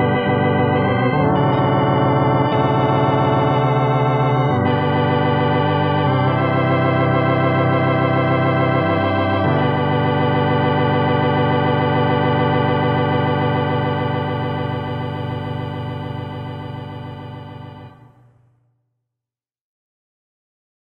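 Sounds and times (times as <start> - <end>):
organ playing hymn chords: 0.0 - 18.3.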